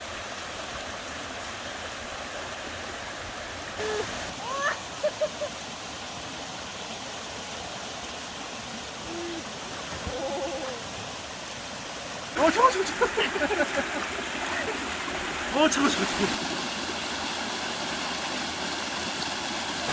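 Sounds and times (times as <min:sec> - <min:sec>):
stream water rushing: 0:00.0 - 0:19.9.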